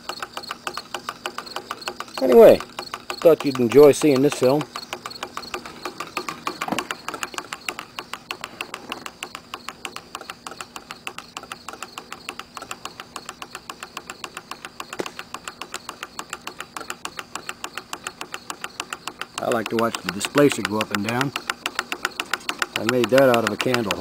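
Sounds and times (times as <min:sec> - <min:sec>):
small engine fast clicking: 0:00.0 - 0:24.0.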